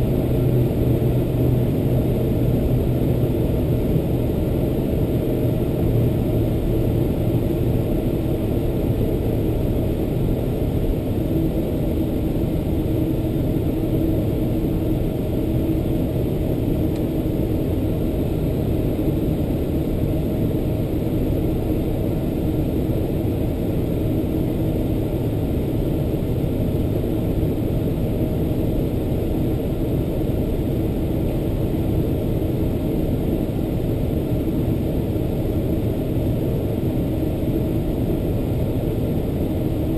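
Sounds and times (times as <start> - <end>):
aircraft cabin rumble: 0.0 - 39.9
faint steady hum: 0.0 - 39.9.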